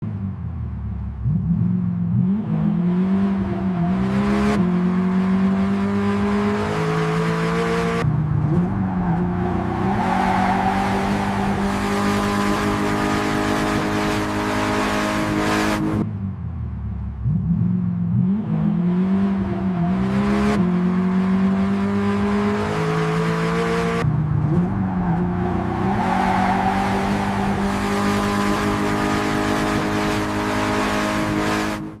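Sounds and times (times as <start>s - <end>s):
car engine revving and accelerating: 0.0s - 32.0s.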